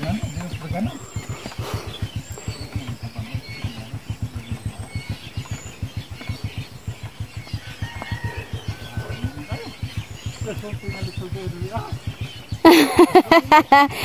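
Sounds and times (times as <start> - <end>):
birds chirping: 0.0 - 14.0
small motorcycle engine running: 0.0 - 14.0.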